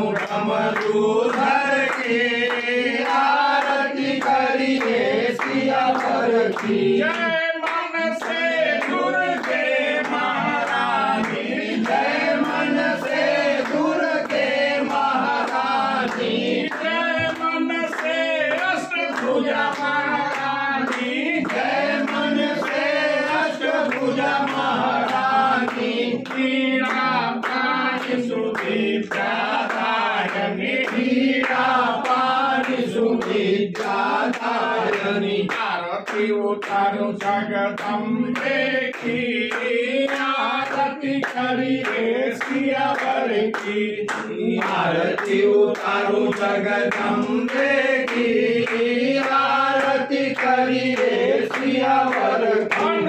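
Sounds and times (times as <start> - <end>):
group singing: 0.0 - 53.0
hand-clapping: 0.0 - 53.0.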